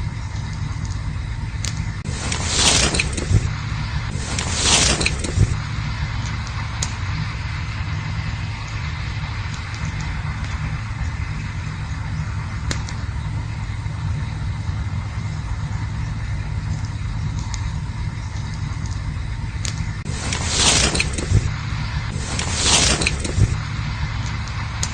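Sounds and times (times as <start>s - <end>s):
campfire burning with low rumble: 0.0s - 24.9s
fire crackling and popping: 0.0s - 24.9s.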